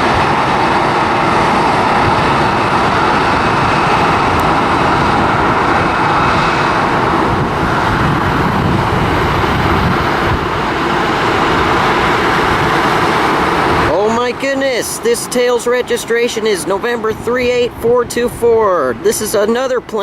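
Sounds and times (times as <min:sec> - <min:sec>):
jet engine noise: 0:00.0 - 0:20.0.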